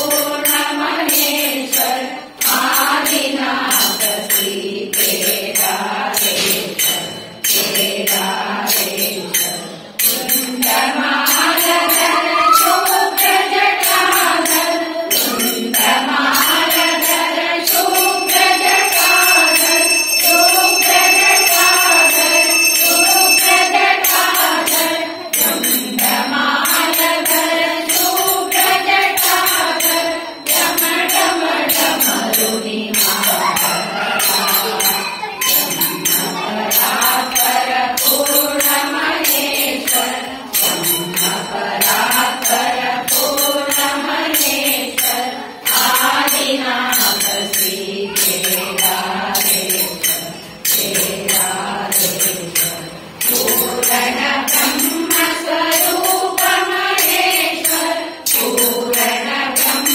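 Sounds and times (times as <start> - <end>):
metallic hand percussion: 0.0 - 59.9
voices singing devotional song: 0.0 - 59.9.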